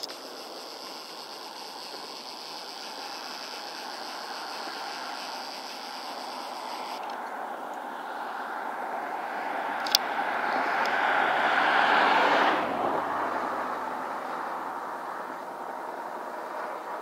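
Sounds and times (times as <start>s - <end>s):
distant engine noise: 0.0s - 17.0s
high steady hiss: 0.0s - 17.0s.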